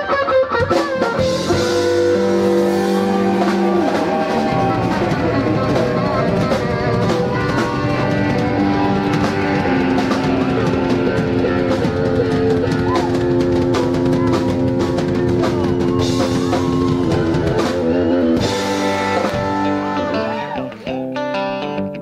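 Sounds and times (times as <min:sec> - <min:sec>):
drum kit: 0:00.0 - 0:21.8
electric guitars: 0:00.0 - 0:22.0.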